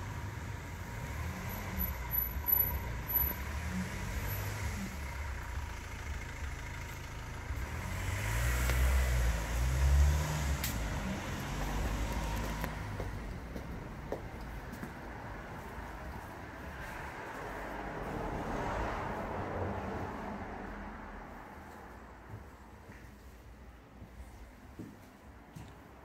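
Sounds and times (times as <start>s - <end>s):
vehicle engine rumble passing: 0.0s - 23.6s.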